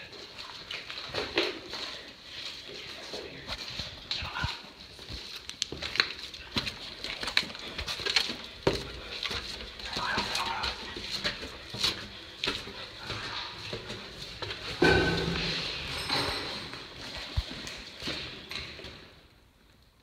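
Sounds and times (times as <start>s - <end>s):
knocks and scuffs: 0.0s - 19.2s
footsteps: 0.0s - 19.3s.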